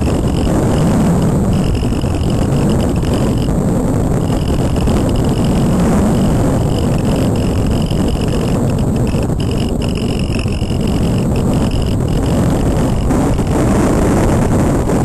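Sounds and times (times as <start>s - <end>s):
thin high whine: 0.0s - 15.0s
wind rushing over camera: 0.0s - 15.0s.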